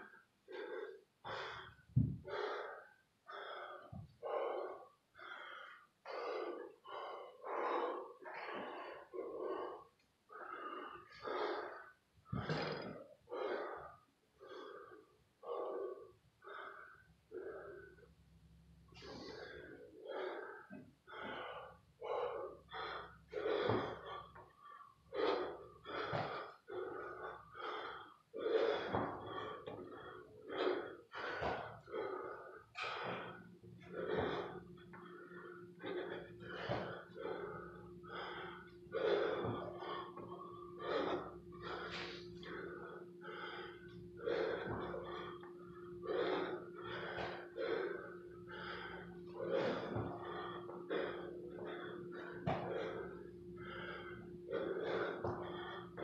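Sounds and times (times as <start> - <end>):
man breathing hard: 0.0 - 56.0.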